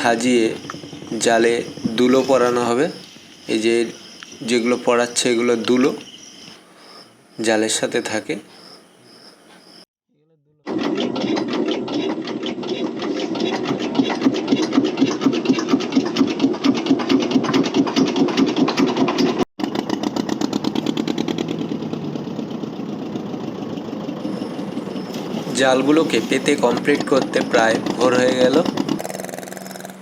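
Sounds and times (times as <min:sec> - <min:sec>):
boat engine running: 0:00.0 - 0:06.2, 0:10.7 - 0:30.0.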